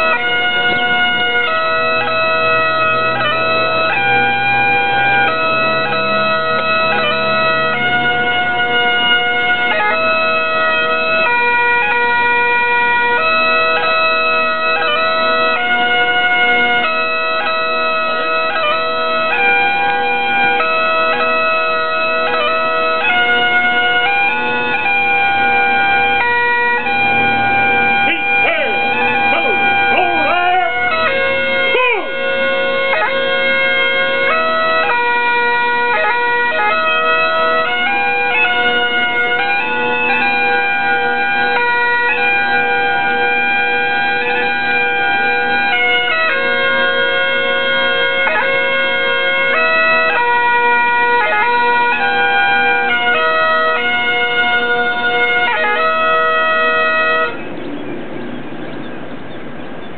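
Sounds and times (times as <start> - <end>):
bagpipe playing slow tune: 0.0 - 57.6.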